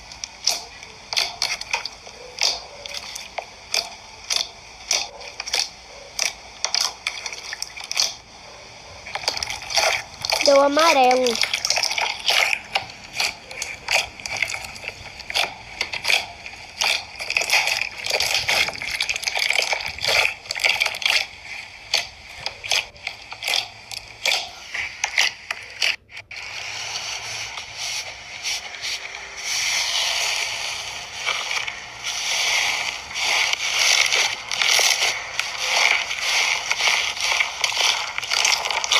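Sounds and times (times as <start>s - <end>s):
slime crackling: 0.0s - 38.9s
slime squished by hand: 0.2s - 8.3s, 9.1s - 26.4s, 27.3s - 38.9s.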